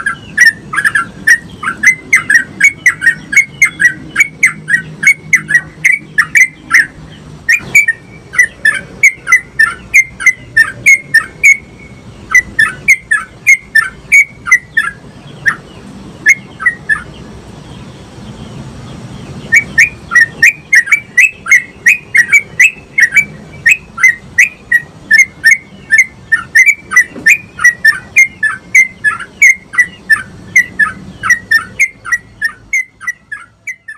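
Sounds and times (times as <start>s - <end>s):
bird singing rapid bubbling notes: 0.0s - 18.0s, 19.3s - 33.9s.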